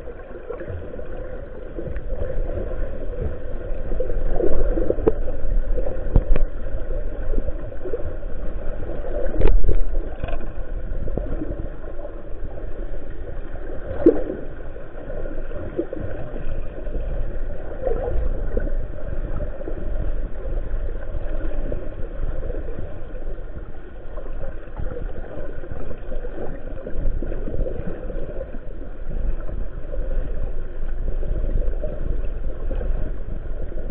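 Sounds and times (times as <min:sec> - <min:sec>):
underwater water rumble: 0:00.0 - 0:33.9.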